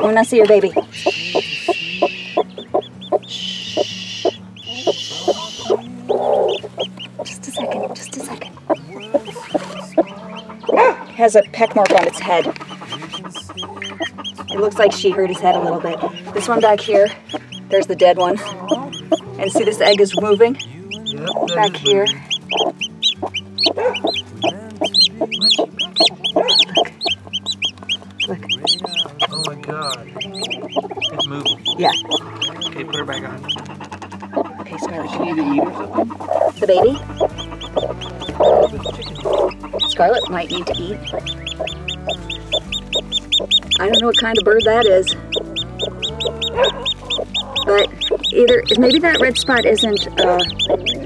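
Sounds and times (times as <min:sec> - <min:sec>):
hen harsh high calls: 0:00.0 - 0:11.6, 0:12.2 - 0:51.0
chick peeping: 0:00.0 - 0:51.0
hen clucking: 0:00.0 - 0:51.0.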